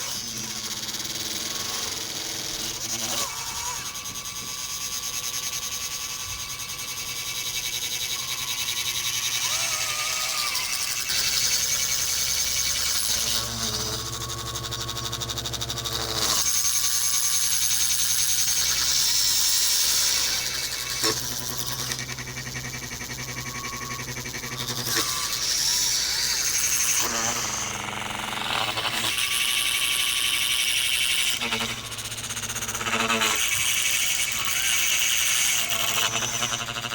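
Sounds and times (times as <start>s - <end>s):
small electric motors whining: 0.0s - 36.9s.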